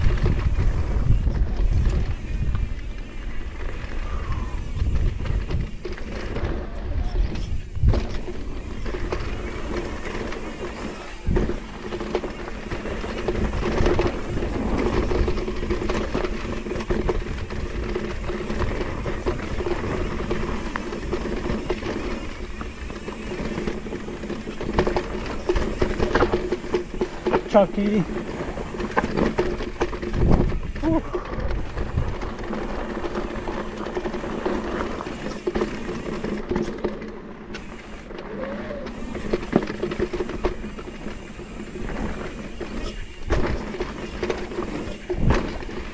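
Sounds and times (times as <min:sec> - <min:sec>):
bike rattling and clicking: 0:00.0 - 0:45.9
bike tyres rumbling on dirt: 0:00.0 - 0:45.9.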